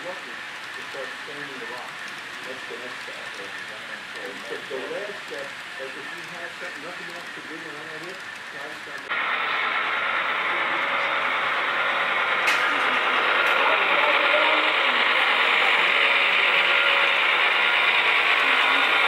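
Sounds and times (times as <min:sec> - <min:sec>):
model train rolling on track: 0:00.0 - 0:19.0.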